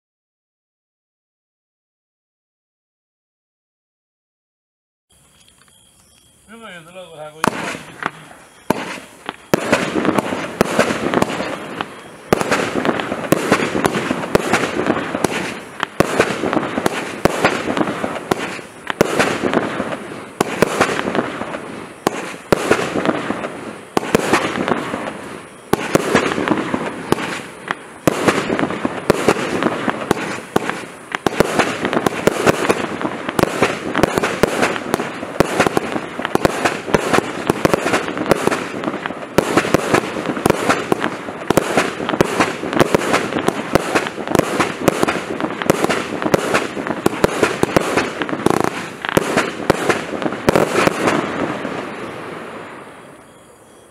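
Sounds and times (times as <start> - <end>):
firework barrage cracks and pops: 6.5 - 53.2.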